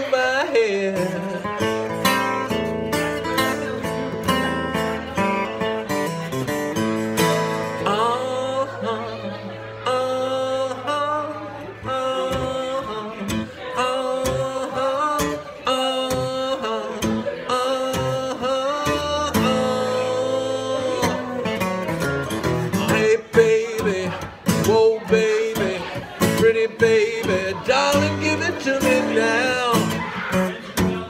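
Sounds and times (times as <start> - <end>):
guitar riff with bent notes: 0.0 - 31.0.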